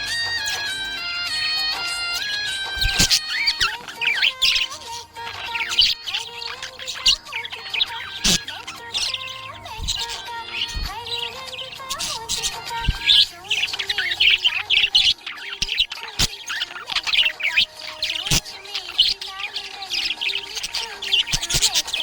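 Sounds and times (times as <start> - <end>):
budgerigar chirping and warbling: 0.0 - 22.0.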